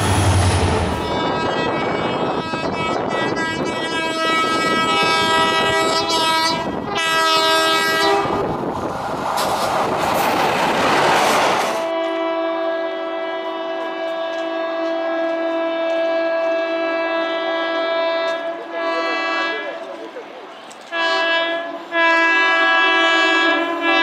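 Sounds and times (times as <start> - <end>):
multi-note train horn: 0.0 - 8.4, 11.8 - 19.9, 20.8 - 24.0
train horn blasts: 0.0 - 8.4, 11.8 - 19.8, 20.8 - 24.0
passing train rumble and clatter: 0.0 - 24.0.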